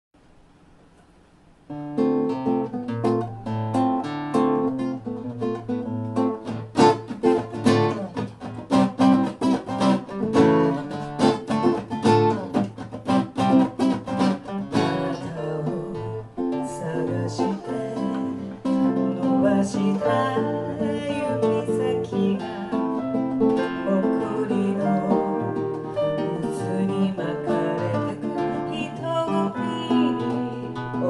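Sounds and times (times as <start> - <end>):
acoustic guitar bossa nova: 1.7 - 31.0.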